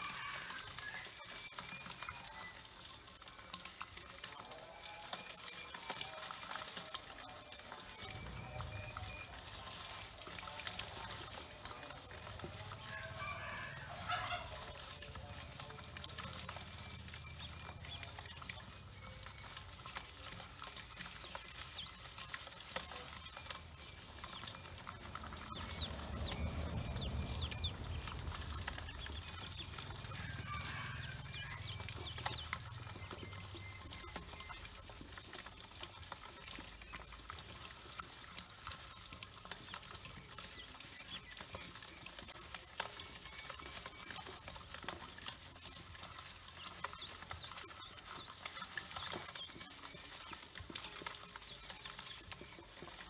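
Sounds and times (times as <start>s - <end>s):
ducklings peeping: 0.0s - 53.0s.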